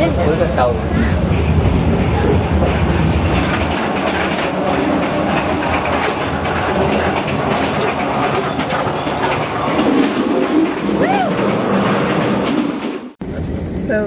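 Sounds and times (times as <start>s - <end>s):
train wheels clattering on rails: 1.0s - 13.2s.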